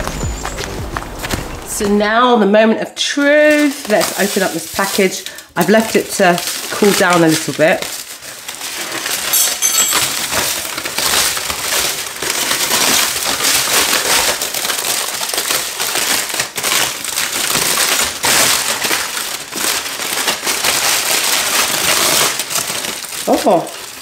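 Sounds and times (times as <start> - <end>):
aluminium foil crinkling: 2.9 - 24.0.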